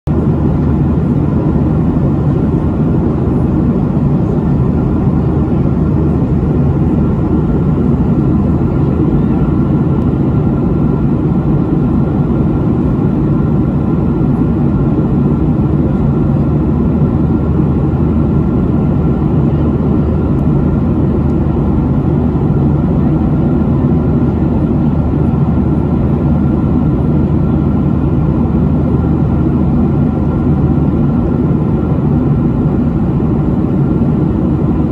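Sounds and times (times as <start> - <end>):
airplane cabin engine noise: 0.1 - 34.9.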